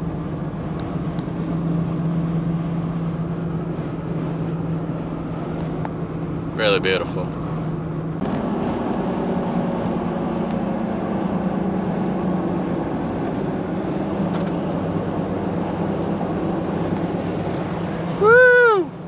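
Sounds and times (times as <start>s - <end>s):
engine hum inside car: 0.0s - 19.0s
road noise: 0.0s - 19.0s.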